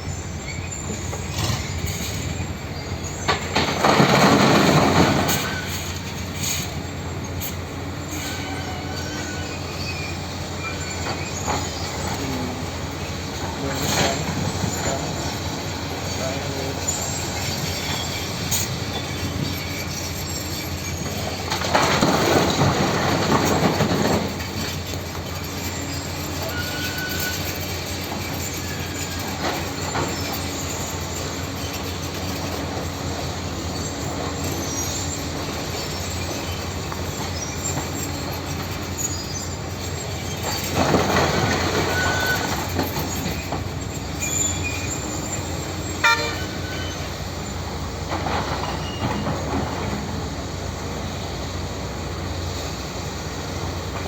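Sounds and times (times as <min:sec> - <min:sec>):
metallic squealing and clatter: 0:00.0 - 0:50.5
heavy tracked machine running: 0:00.0 - 0:54.0.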